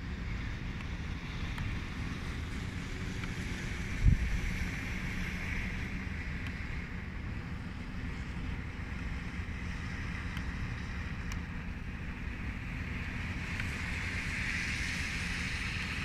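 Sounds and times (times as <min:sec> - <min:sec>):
wind buffeting microphone: 0:00.0 - 0:14.5.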